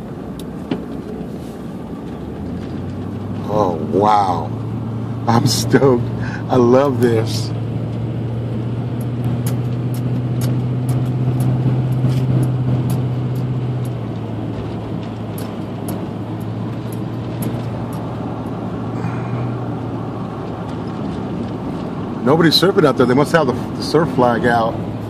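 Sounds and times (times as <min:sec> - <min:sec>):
truck engine and tyre hum: 0:00.0 - 0:25.0.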